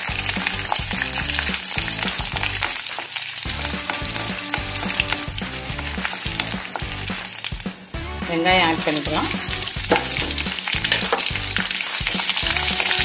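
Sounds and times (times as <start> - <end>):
background music: 0.0 - 2.8, 3.5 - 13.0
food sizzling in hot oil: 0.0 - 8.0, 8.7 - 13.0.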